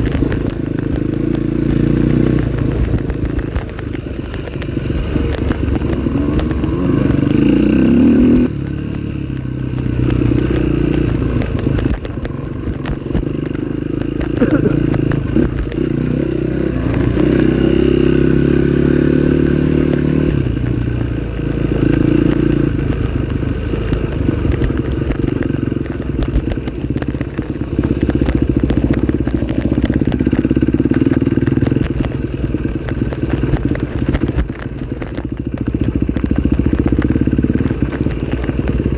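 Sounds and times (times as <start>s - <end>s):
clatter over terrain: 0.0s - 38.9s
motorcycle engine revving: 0.0s - 38.9s.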